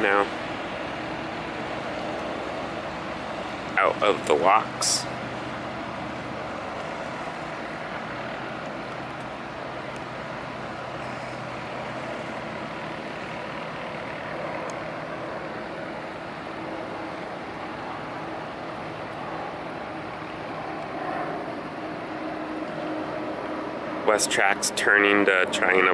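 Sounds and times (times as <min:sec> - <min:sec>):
tugboat engines rumbling: 0:00.0 - 0:25.9.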